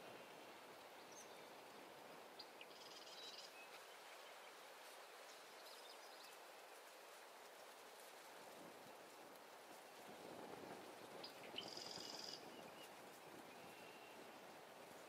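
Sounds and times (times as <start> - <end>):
faint pond ambience: 0.0 - 15.0.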